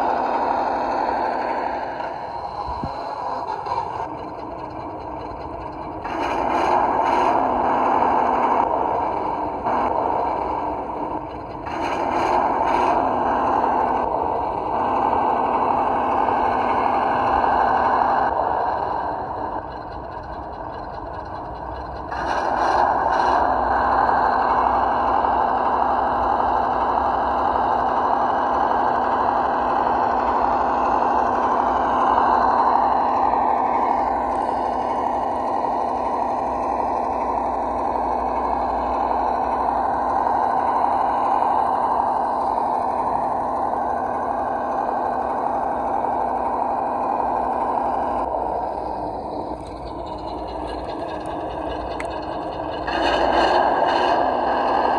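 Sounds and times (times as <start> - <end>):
model truck engine sound: 0.0 - 54.9.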